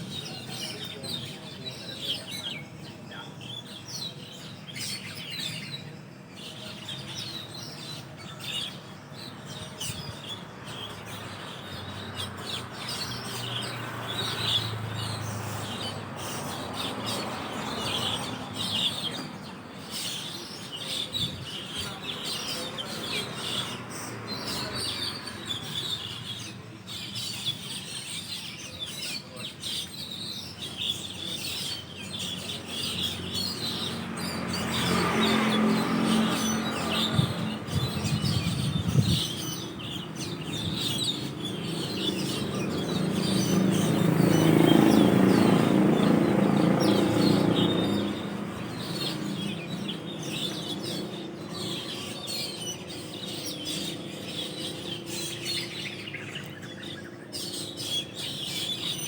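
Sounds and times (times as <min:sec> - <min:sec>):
starlings chirping and chattering: 0:00.0 - 0:59.0.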